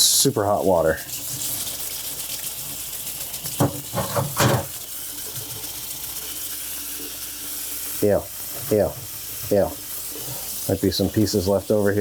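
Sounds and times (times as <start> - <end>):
tap water running over plastic: 0.0 - 12.0.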